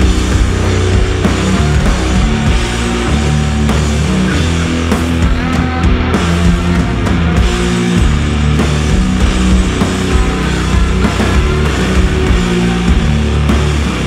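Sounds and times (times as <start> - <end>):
hard rock music with electric guitar: 0.0 - 14.0.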